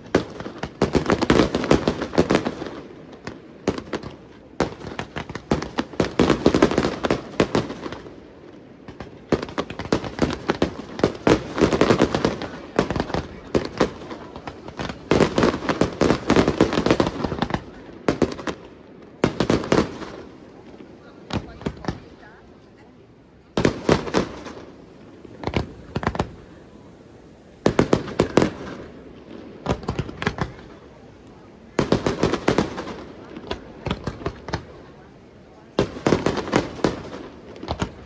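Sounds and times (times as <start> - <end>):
fireworks banging and crackling: 0.0 - 38.0.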